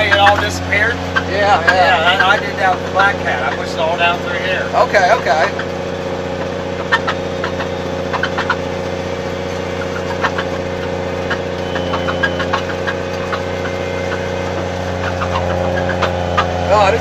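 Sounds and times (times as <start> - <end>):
snowcat engine droning: 0.0 - 17.0.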